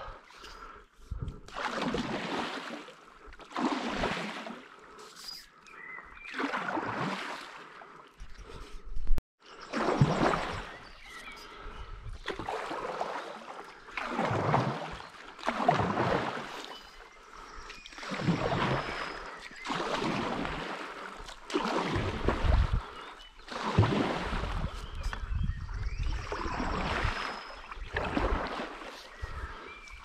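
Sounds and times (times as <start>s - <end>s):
paddle swishing and splashing water: 0.0s - 25.3s, 26.0s - 30.0s.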